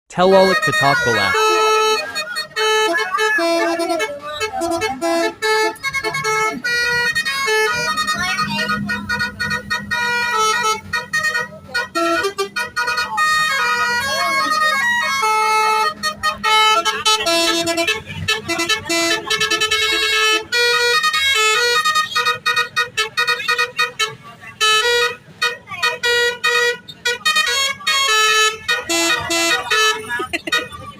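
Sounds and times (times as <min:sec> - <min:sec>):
multi-tone bus horn playing a tune: 0:00.1 - 0:30.9.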